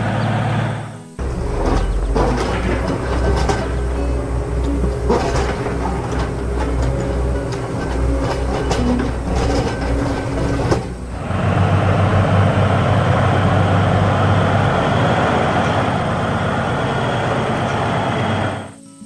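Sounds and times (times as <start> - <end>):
heavy diesel machinery rumble: 0.0 - 18.8
machinery knocks: 1.2 - 18.7.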